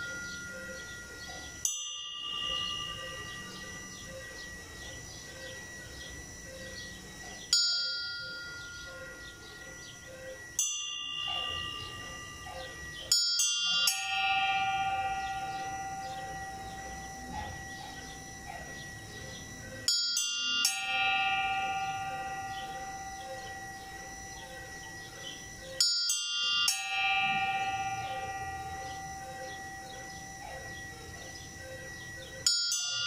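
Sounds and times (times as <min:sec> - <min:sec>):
church bells tolling: 0:00.0 - 0:33.0
deep bell humming: 0:00.0 - 0:33.0.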